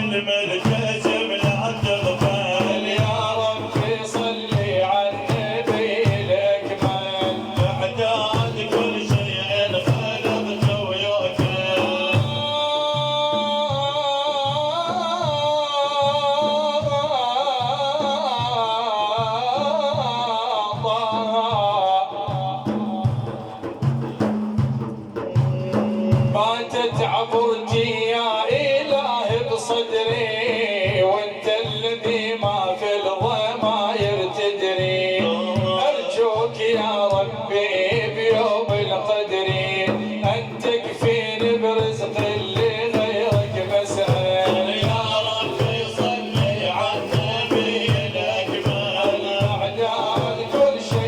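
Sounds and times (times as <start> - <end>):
steady drum beat: 0.0 - 51.0.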